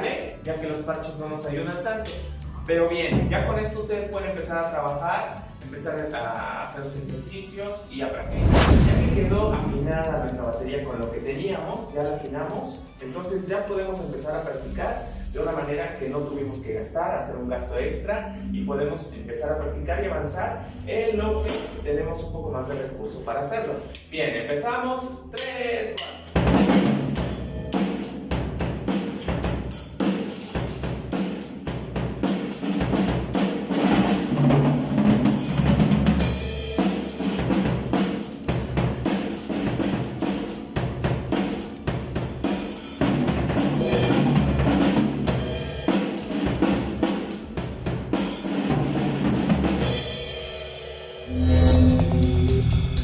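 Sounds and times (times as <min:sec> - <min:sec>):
drum kit groove: 0:00.0 - 0:15.0, 0:25.3 - 0:53.0
music track with bass notes: 0:00.0 - 0:24.4, 0:25.0 - 0:53.0.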